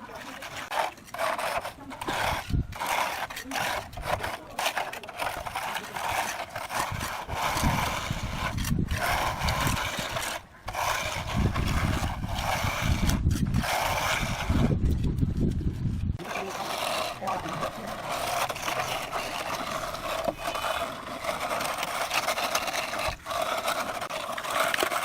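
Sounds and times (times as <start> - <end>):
rough scraping strokes: 0.0 - 25.0.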